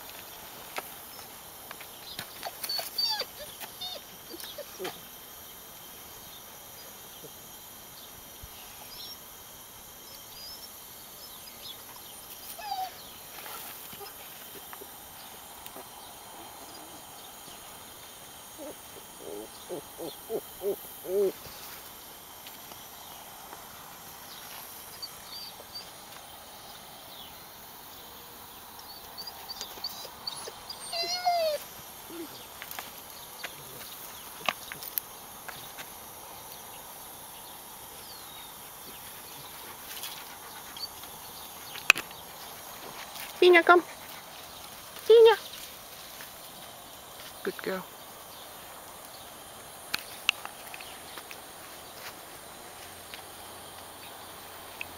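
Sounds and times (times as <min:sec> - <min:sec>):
faint hiss: 0:00.0 - 0:54.9.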